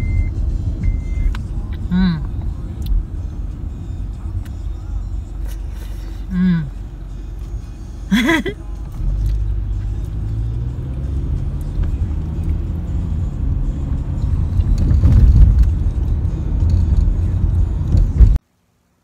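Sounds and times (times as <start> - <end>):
engine and tyre rumble: 0.0 - 18.8.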